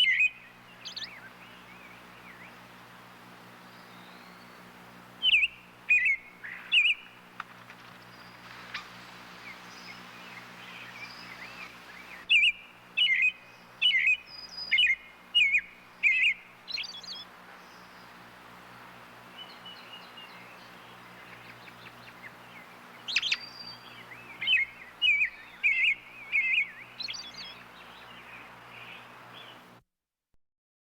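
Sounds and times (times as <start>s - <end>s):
robin singing: 0.0s - 29.7s
faint low hum: 0.0s - 29.8s.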